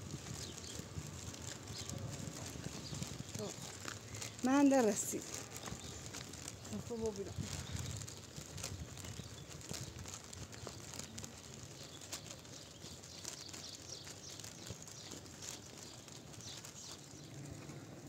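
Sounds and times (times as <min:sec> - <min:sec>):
rustles: 0:00.0 - 0:18.0.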